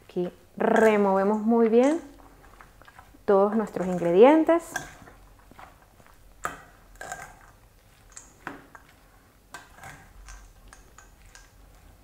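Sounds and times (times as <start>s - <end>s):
metal spoon stirring in metal bowl: 0.2s - 12.0s.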